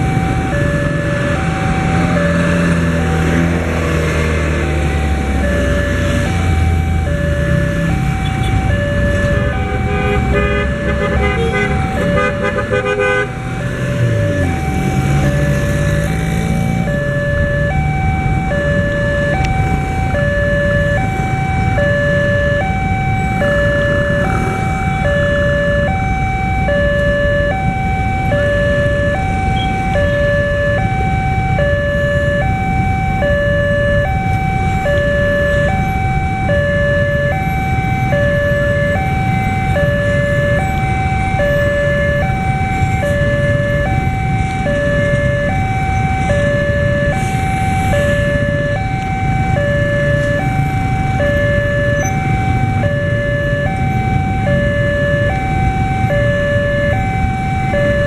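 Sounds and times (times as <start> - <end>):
two-tone crossing warning alarm: 0.0 - 58.0.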